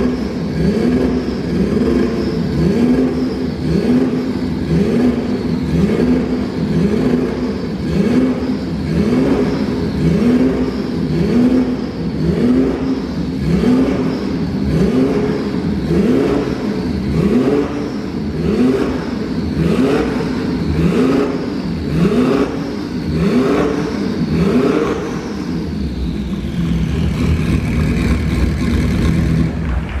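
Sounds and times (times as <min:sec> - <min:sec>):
car engine revving: 0:00.0 - 0:30.0
high turbo whine: 0:00.0 - 0:30.0.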